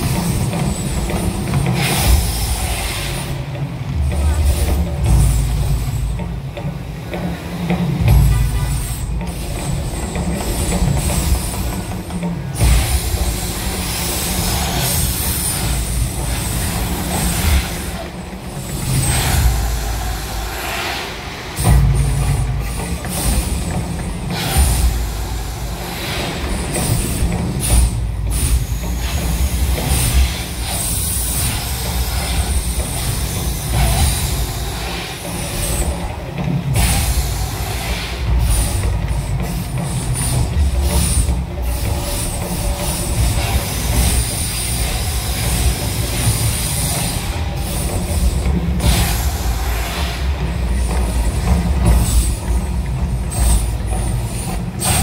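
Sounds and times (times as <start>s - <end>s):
deep continuous rumble: 0.0s - 55.0s
gas fire jets rushing: 0.0s - 55.0s.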